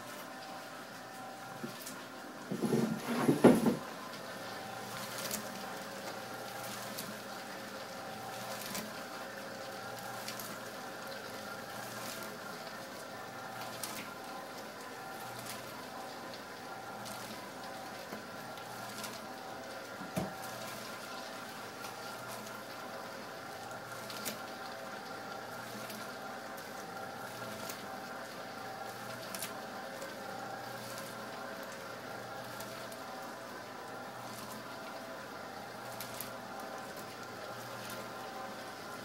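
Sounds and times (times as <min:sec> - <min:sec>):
popcorn maker motor humming: 0:00.0 - 0:39.0
popcorn pattering against metal bowl: 0:04.7 - 0:39.0.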